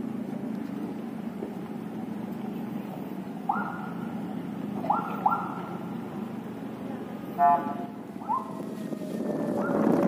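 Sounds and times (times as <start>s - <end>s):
slow traffic: 0.0s - 10.0s.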